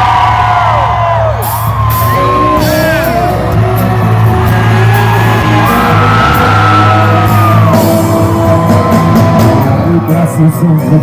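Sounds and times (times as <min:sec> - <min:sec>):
live band music: 0:01.4 - 0:11.0.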